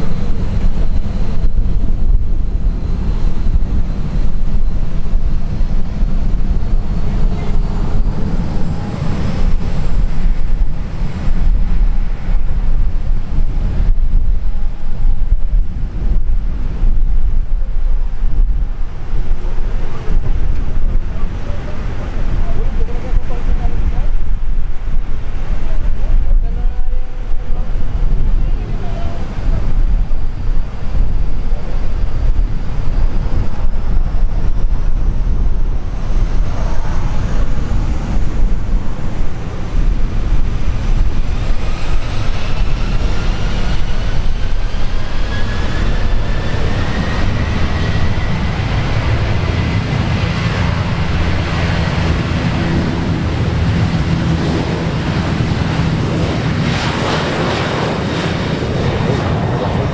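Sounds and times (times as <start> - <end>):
jet engines rumbling: 0.0 - 59.9
rising jet engine whine: 0.0 - 59.9
wind buffeting microphone: 0.0 - 59.9.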